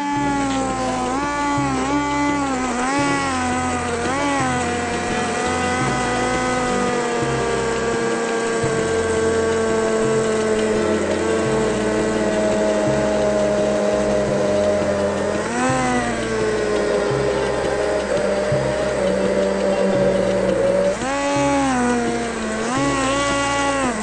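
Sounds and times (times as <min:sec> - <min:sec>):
hand blender motor whine: 0:00.0 - 0:24.0.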